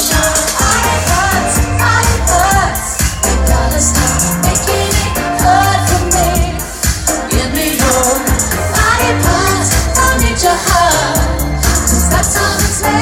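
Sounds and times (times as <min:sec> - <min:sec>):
electronic dance track: 0:00.0 - 0:13.0.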